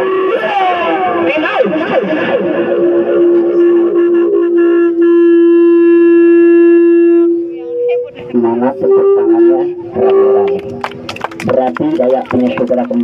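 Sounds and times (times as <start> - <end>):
higher wind instrument note: 0.0 - 10.8
low wind instrument note: 0.0 - 11.0.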